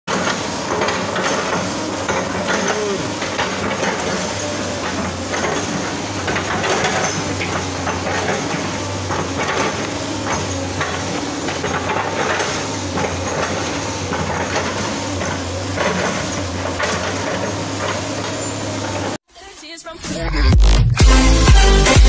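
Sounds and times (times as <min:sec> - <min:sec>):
excavator diesel engine: 0:00.1 - 0:19.2.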